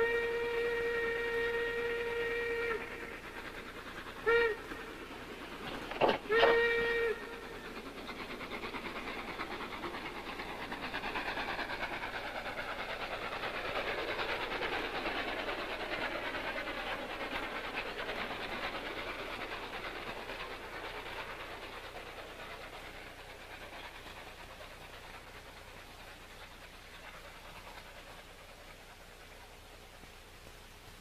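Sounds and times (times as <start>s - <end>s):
train rolling along rails: 0.0s - 31.0s.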